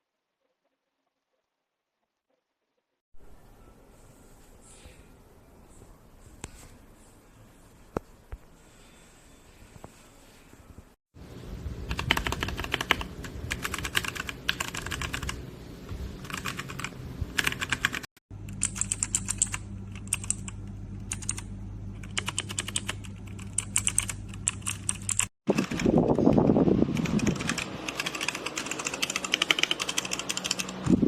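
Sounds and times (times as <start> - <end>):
steady low hum: 3.2 - 31.0.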